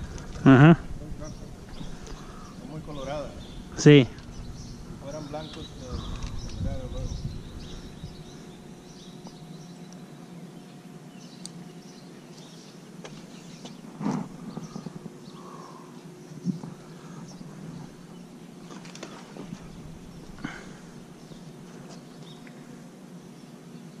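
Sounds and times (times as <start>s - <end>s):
faint bird calls: 0.0s - 23.6s
steady low hum: 0.0s - 24.0s.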